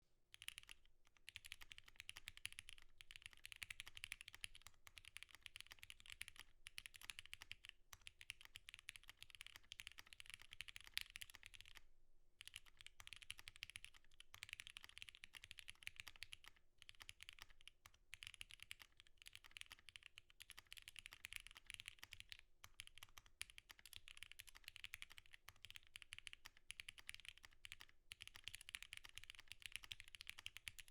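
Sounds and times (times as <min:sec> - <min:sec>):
typing on mechanical keyboard: 0:00.4 - 0:11.8, 0:12.4 - 0:30.9.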